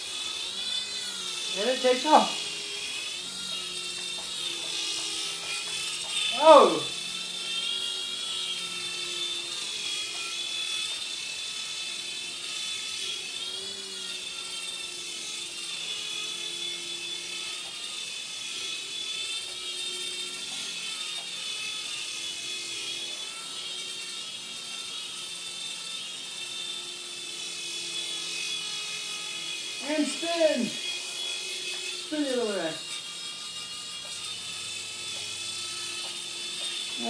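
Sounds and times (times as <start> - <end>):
toy helicopter motors whining: 0.0 - 37.0.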